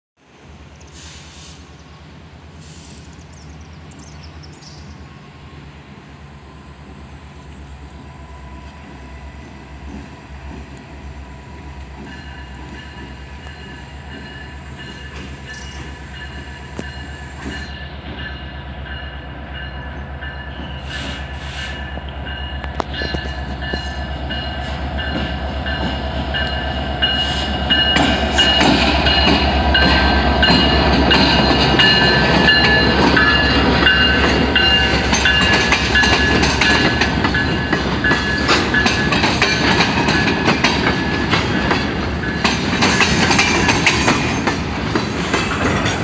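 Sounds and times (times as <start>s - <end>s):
diesel locomotive engine drone: 0.2s - 46.0s.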